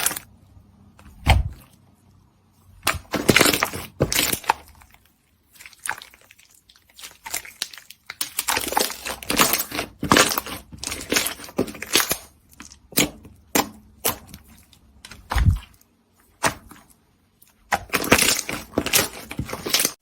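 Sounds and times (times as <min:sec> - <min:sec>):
slime crackling and squelching: 0:00.0 - 0:00.3, 0:02.7 - 0:20.0.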